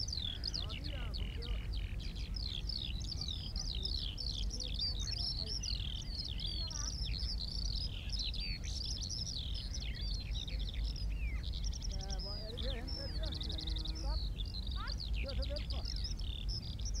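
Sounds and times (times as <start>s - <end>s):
songbirds chirping and warbling: 0.0s - 17.0s
steady low rumble: 0.0s - 17.0s.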